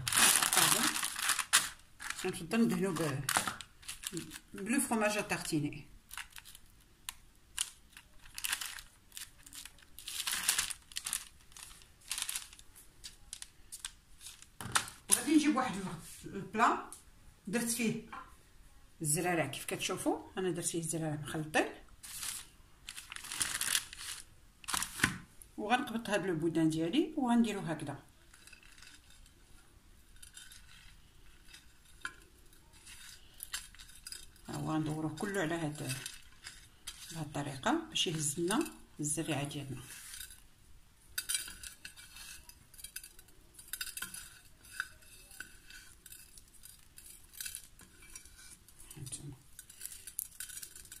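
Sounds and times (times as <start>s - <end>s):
parchment paper crinkling: 0.0s - 15.8s, 22.0s - 25.3s, 28.1s - 40.4s, 41.2s - 51.0s.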